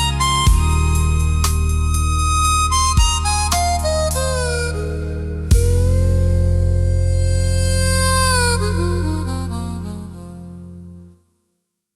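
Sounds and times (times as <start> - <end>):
blues harmonica: 0.0 - 11.1
low bass accompaniment: 0.0 - 11.2.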